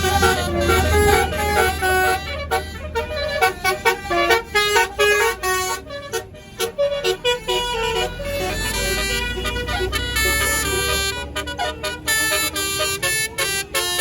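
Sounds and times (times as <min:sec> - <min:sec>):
musical bus horn tune: 0:00.0 - 0:14.0.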